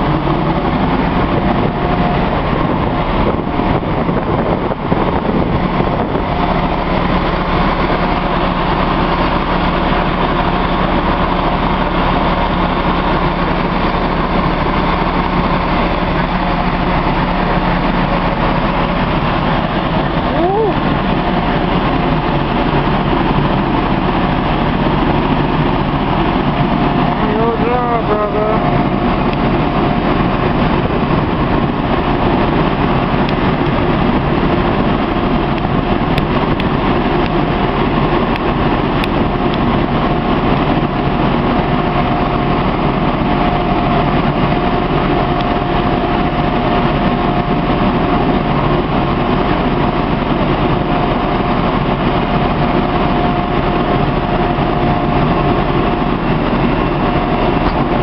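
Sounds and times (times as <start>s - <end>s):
constant pump whine: 0.0s - 58.0s
fire engine pump running: 0.0s - 58.0s.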